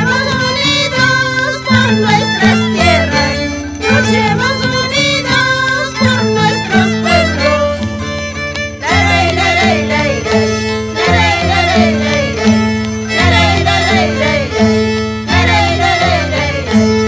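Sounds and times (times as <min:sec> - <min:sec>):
violins playing folk melody: 0:00.0 - 0:17.0.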